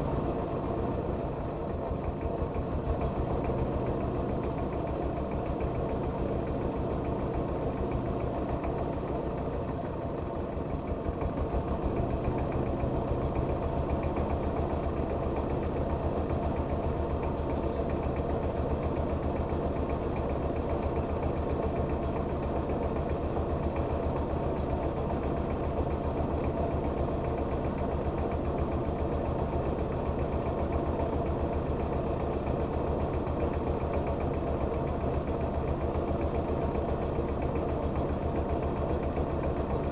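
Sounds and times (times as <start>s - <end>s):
rice mill machine running: 0.8s - 39.9s.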